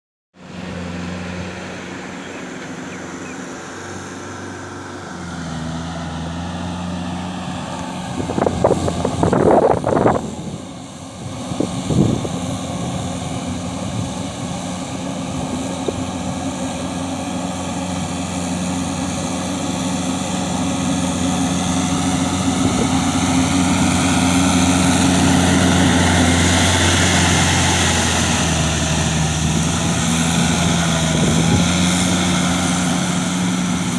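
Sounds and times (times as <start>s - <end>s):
tractor engine running: 0.4s - 33.9s
loud rough noise: 0.5s - 33.9s.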